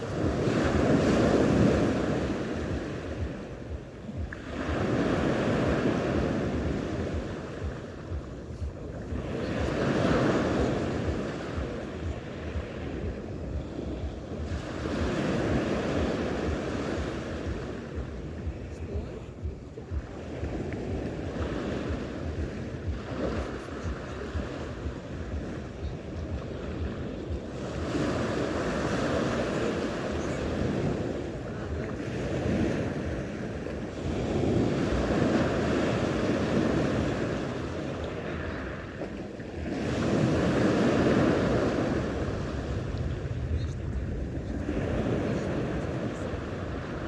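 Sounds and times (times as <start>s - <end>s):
sea waves breaking on shore: 0.0s - 47.0s
wind buffeting microphone: 0.0s - 47.0s.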